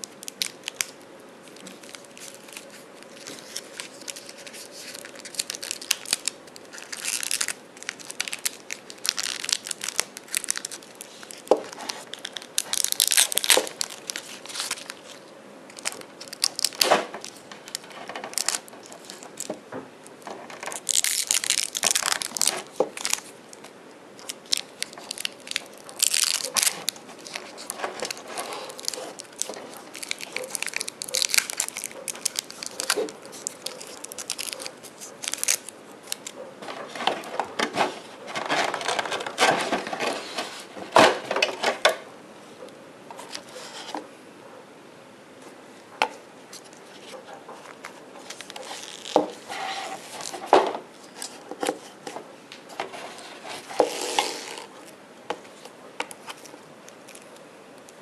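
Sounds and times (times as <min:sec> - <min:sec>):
plastic wrapping crinkling: 0:00.0 - 0:42.0, 0:46.1 - 0:58.0.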